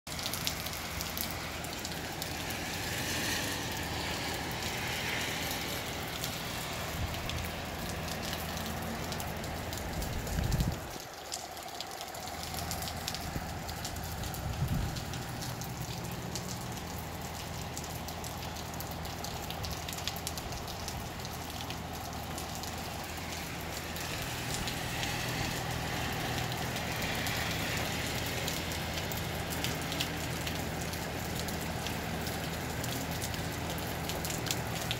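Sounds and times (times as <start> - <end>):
steady rain falling: 0.1 - 34.9
wind: 0.1 - 34.9.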